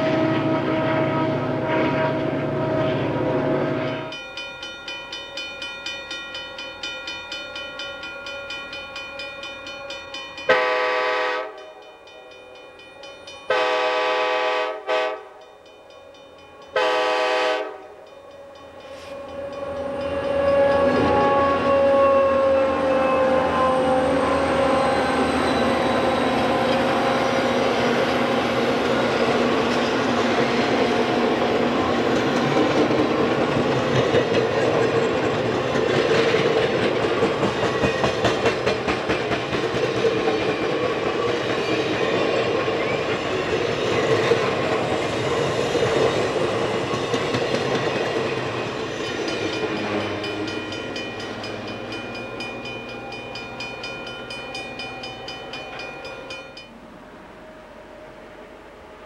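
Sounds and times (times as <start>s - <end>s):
train wheels clickety-clack on rails: 0.0s - 56.8s
diesel locomotive engine drone: 0.0s - 59.0s.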